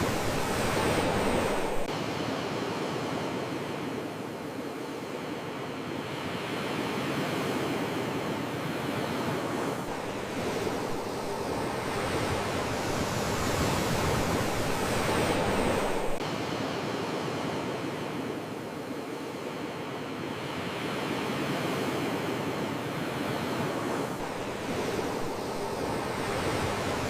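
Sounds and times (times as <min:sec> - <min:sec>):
sea waves washing ashore: 0:00.0 - 0:27.0.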